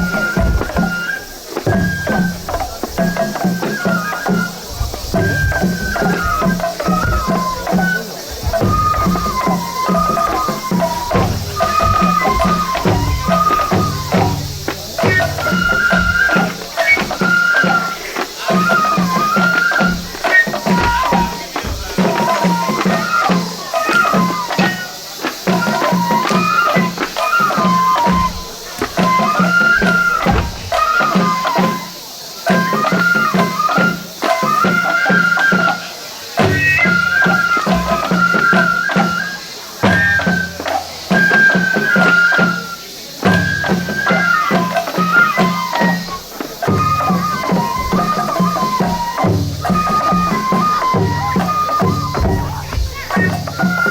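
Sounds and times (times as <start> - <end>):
bamboo flute melody: 0.0 - 53.9
steady drum strokes: 0.0 - 53.9.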